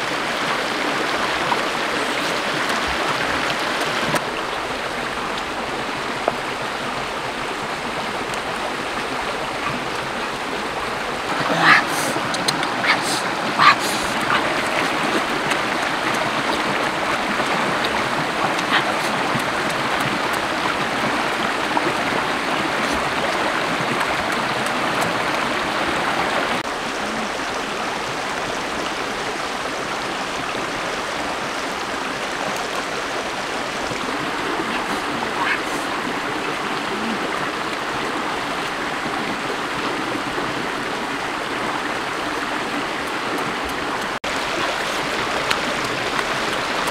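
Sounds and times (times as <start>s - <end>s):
stream burbling over stones: 0.0s - 46.9s.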